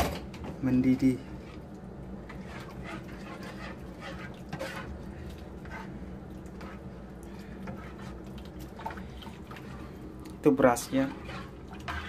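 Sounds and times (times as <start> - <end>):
pot heating on stove hum: 0.0 - 12.0.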